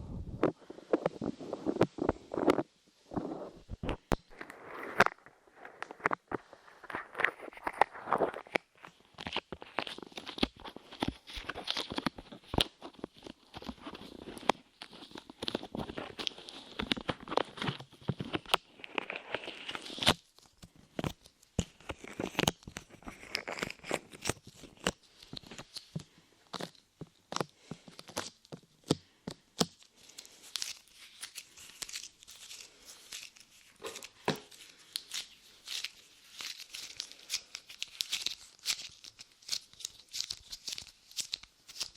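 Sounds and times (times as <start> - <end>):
sticky clay crackling on microphone: 0.0 - 41.9.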